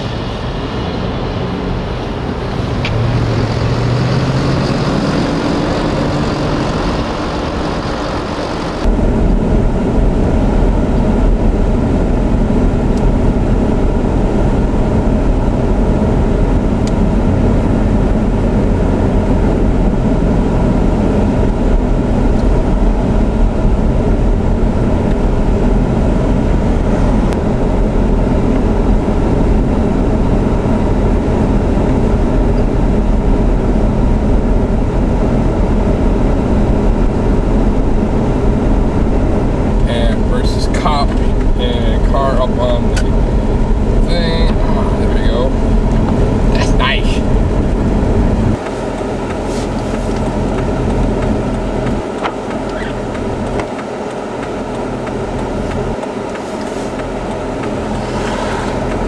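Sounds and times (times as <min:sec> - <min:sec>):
snowplow trucks rumbling: 0:00.0 - 0:59.0.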